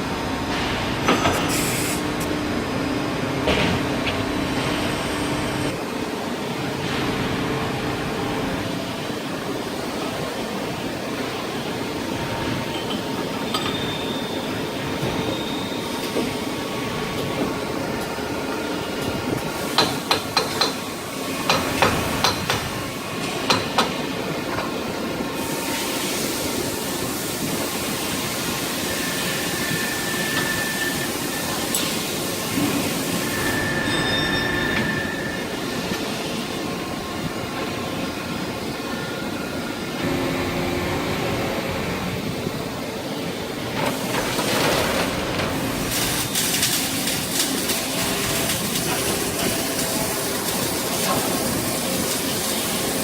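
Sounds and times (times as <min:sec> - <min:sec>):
steady machinery noise: 0:00.0 - 0:53.0.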